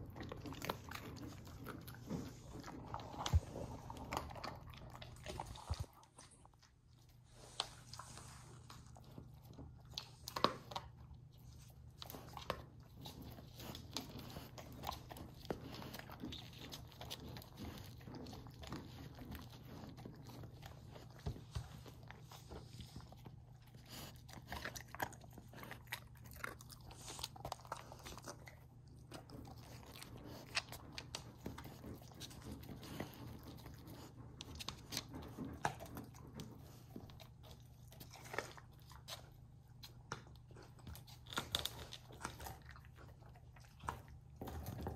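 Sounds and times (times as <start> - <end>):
low steady hum: 0.0 - 44.9
puppy crunching and licking: 0.0 - 44.9.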